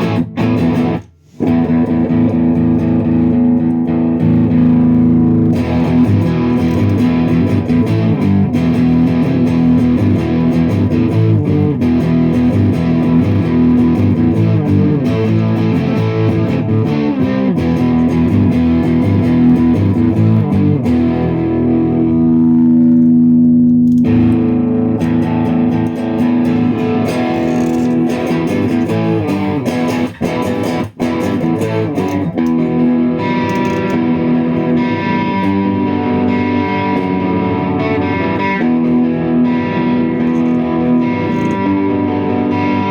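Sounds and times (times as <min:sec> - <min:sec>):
clean electric guitar playing: 0:00.0 - 0:42.9.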